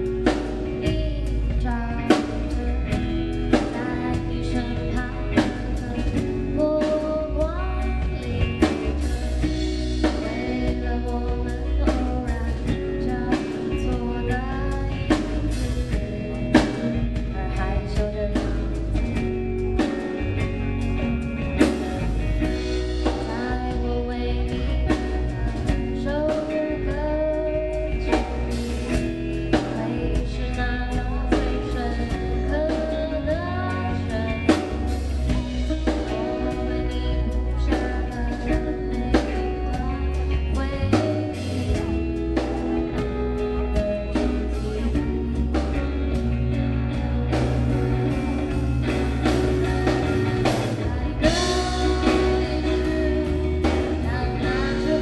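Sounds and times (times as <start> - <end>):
live rock band playing: 0.0 - 55.0
woman singing lead: 0.0 - 55.0.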